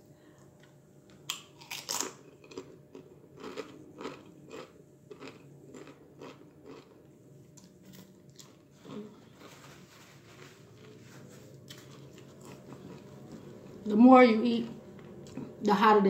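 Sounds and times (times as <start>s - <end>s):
crunching of chips being chewed: 0.6s - 13.8s.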